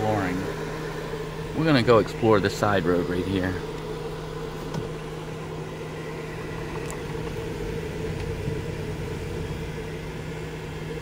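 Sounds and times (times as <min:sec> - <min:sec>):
road noise: 0:00.0 - 0:11.0
van engine running: 0:00.0 - 0:11.0.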